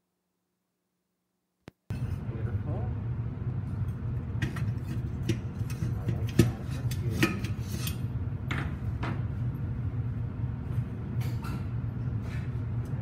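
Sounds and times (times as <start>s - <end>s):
steady low hum: 1.7s - 13.0s.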